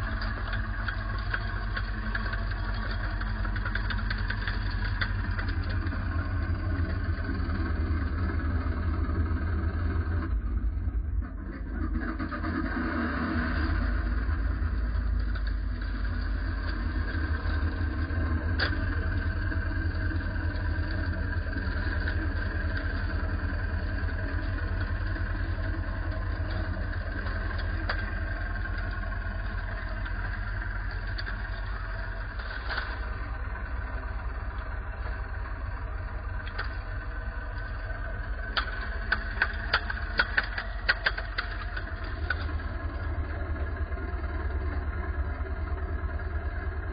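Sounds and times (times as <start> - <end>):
track clanks: 0.0 - 10.3, 11.2 - 46.7
tracked vehicle engine drone: 0.0 - 46.9.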